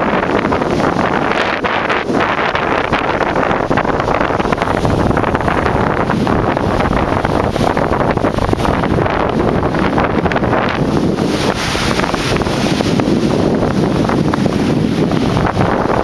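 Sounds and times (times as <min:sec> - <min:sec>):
gusty wind on microphone: 0:00.0 - 0:16.0.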